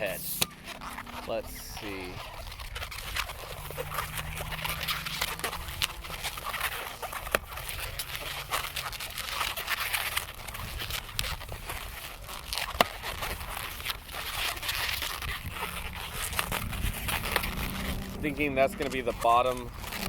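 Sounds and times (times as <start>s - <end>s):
balloons squeaking and rubbing: 0.0s - 20.0s.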